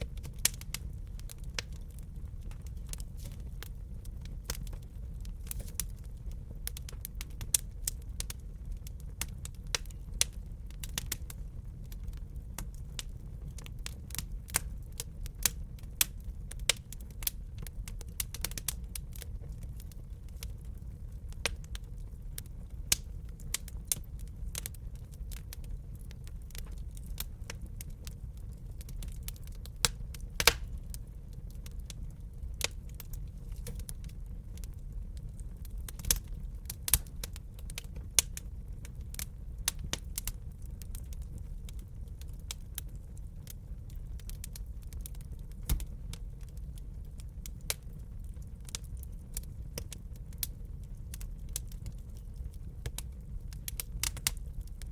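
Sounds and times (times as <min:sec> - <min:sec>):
low rumble of flames: 0:00.0 - 0:54.9
wood fire crackling: 0:00.0 - 0:54.9.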